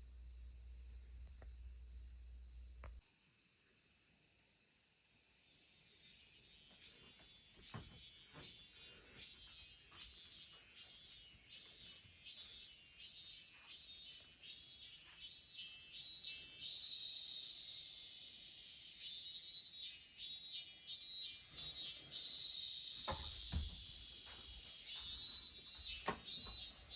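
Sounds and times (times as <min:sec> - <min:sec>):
insects chirring drone: 0:00.0 - 0:26.9.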